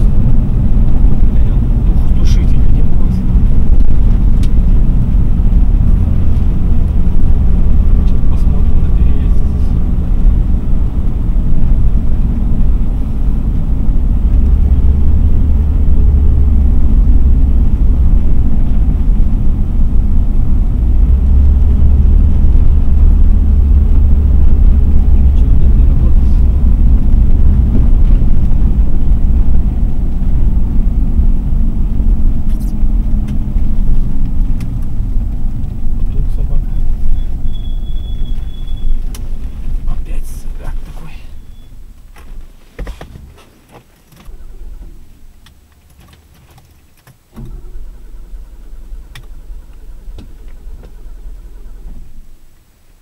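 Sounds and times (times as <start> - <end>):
car engine drone: 0.0 - 53.0
road rumble: 0.0 - 53.0.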